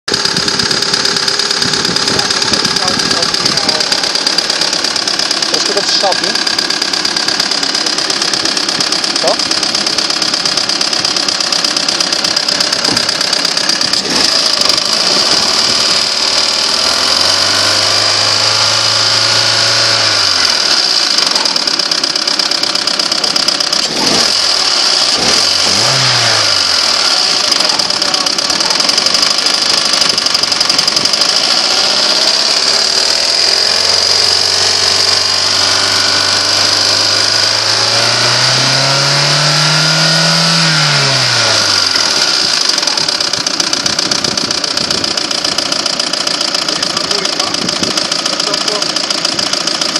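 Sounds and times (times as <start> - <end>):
car engine revving: 0.1 - 49.9
rapid engine knock: 0.1 - 49.9.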